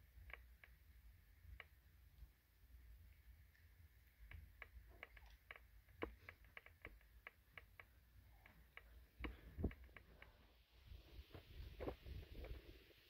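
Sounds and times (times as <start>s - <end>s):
faint irregular clicking: 0.0s - 13.0s.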